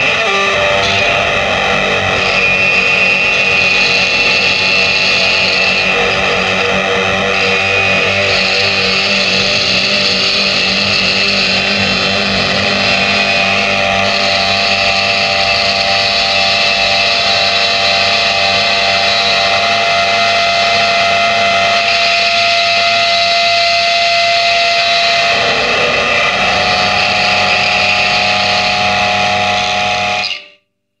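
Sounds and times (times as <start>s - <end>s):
distorted drone music: 0.0s - 30.4s.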